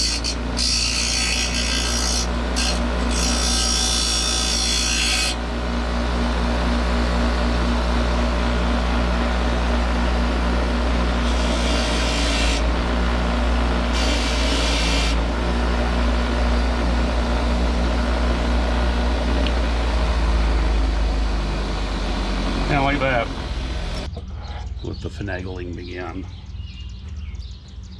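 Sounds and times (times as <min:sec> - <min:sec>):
steady low hum: 0:00.0 - 0:24.1
tool hissing while cutting metal: 0:00.0 - 0:24.1.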